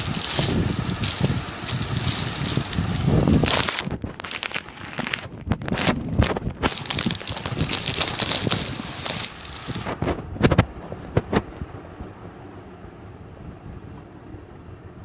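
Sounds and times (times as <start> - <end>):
rustling hiss: 0.0 - 14.7
faint steady hum: 0.0 - 15.0.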